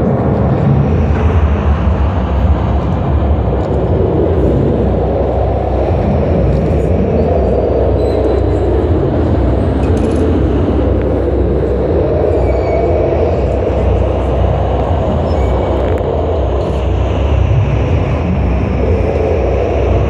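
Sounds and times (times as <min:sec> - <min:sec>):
deep ambient drone: 0:00.0 - 0:20.0.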